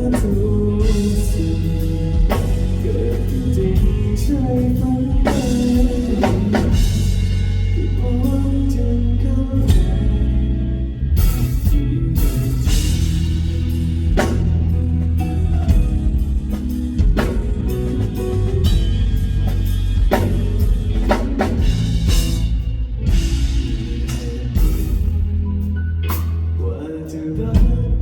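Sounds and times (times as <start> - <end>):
live band playing: 0.0 - 28.0.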